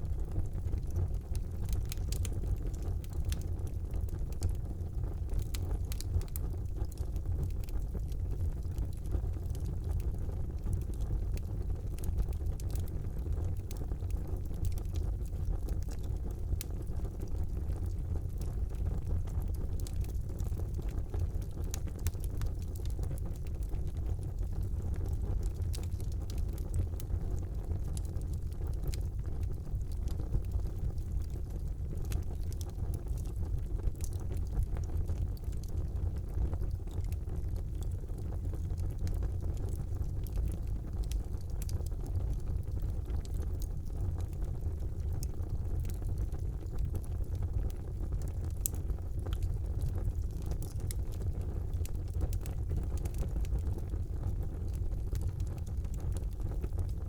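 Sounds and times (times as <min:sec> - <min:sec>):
fire crackling and popping: 0:00.0 - 0:57.0
wood fire rumbling: 0:00.0 - 0:57.0.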